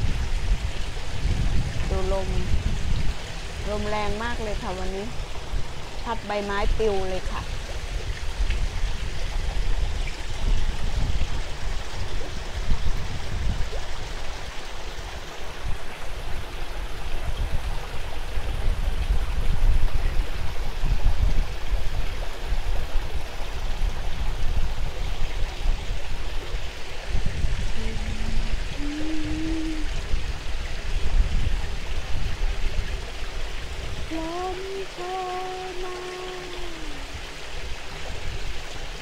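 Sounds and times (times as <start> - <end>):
water trickling into pond: 0.0 - 39.0
wind gusting on microphone: 0.0 - 39.0.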